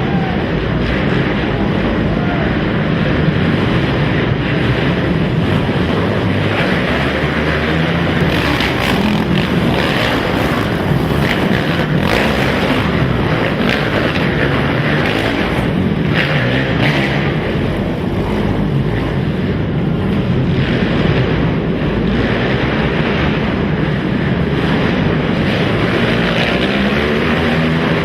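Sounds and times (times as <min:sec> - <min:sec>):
quad engines revving: 0:00.0 - 0:28.0.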